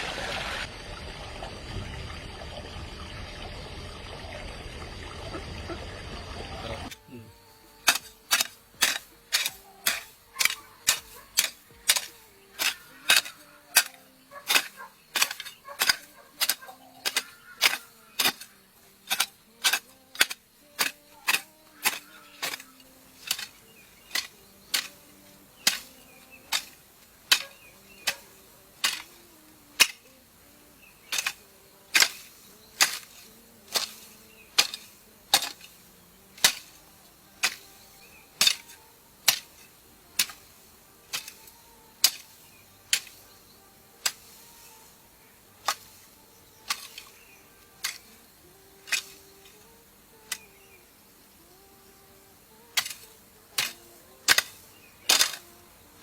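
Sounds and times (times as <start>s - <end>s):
hand tool striking: 6.9s - 50.7s, 51.4s - 55.7s.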